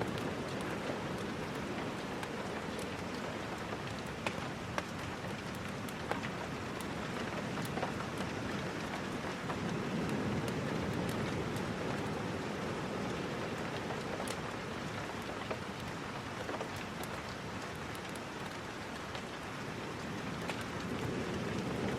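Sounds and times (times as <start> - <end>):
steady rain: 0.0 - 21.9.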